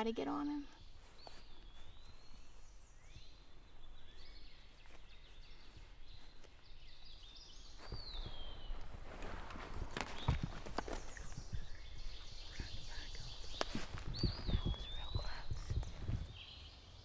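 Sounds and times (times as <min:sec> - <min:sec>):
songbirds singing: 0:00.0 - 0:17.0
clothing rustling: 0:00.8 - 0:16.3.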